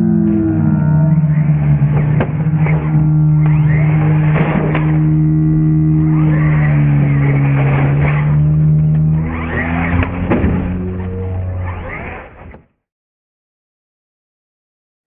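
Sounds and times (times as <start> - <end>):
electric toy truck motor whining: 0.1 - 12.5.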